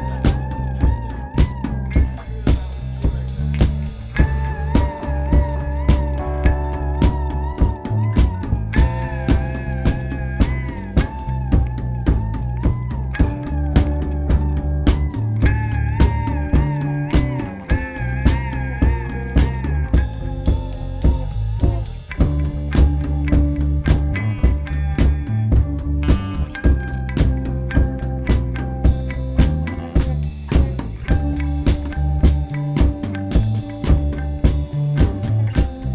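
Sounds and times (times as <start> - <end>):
bass line: 0.0 - 35.9
drum kit beat: 0.0 - 35.9
guitar lead notes: 0.0 - 35.9.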